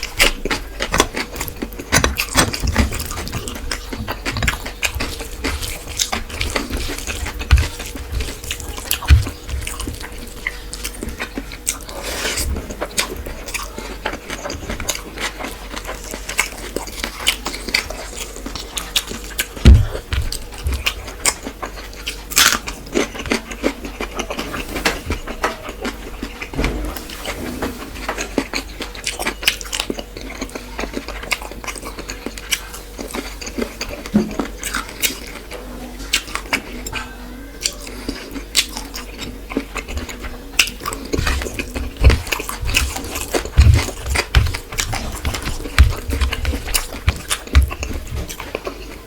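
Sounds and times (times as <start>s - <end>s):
chewing with wet clicks: 0.0s - 24.5s, 25.1s - 26.6s, 28.2s - 49.0s.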